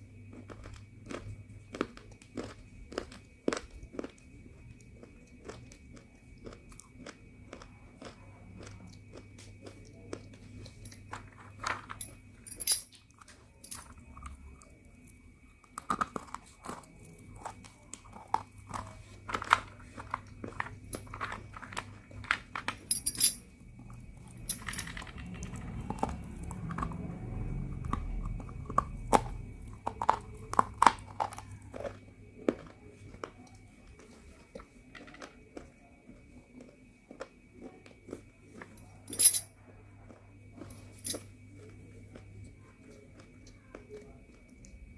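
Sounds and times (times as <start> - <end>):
clay being chewed with crunches: 0.2 - 12.4, 13.0 - 22.5, 23.4 - 44.9.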